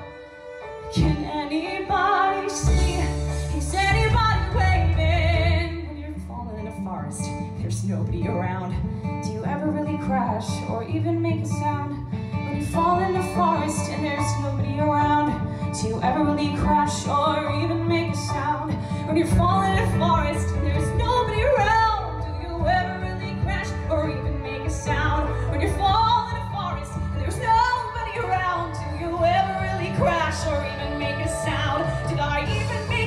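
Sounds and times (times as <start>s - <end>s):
instrumental accompaniment: 0.0s - 6.4s, 12.2s - 33.0s
woman singing into a microphone: 0.8s - 33.0s.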